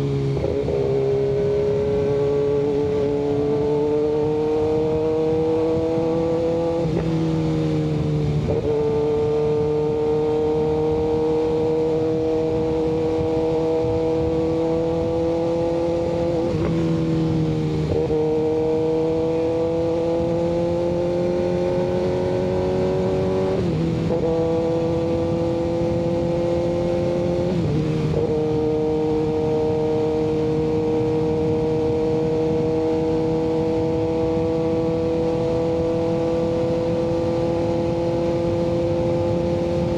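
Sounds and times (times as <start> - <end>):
motorcycle engine: 0.0 - 39.9
road and wind noise: 0.0 - 39.9.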